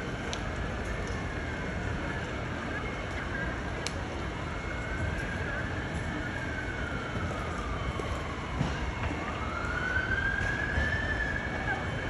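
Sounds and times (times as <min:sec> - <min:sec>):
siren wailing: 0:00.1 - 0:12.0.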